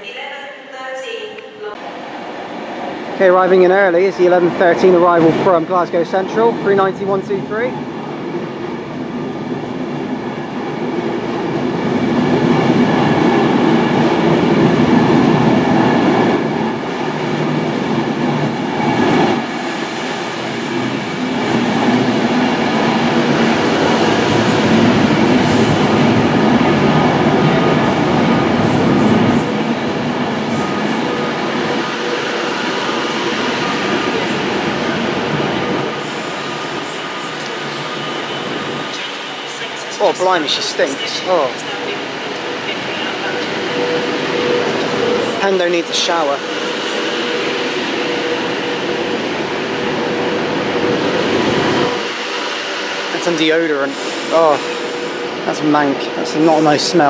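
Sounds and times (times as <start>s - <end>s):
electric train running hum: 1.8s - 57.0s.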